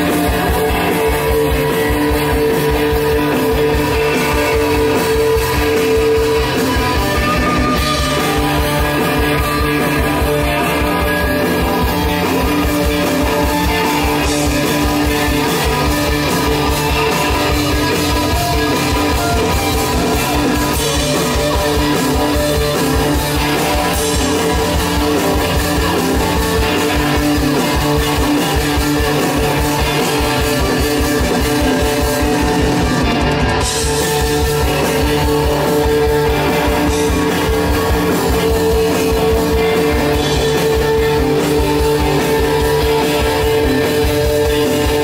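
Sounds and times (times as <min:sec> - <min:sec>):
distorted electric guitars: 0:00.0 - 0:45.0
drum beat: 0:00.0 - 0:45.0
live rock band: 0:00.0 - 0:45.0.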